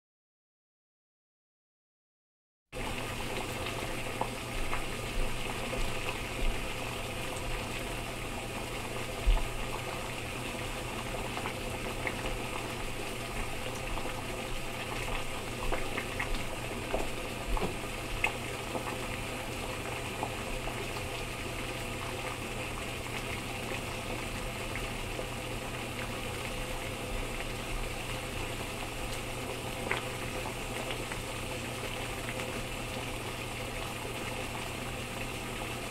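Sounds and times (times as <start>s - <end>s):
water boiling: 2.8s - 35.9s.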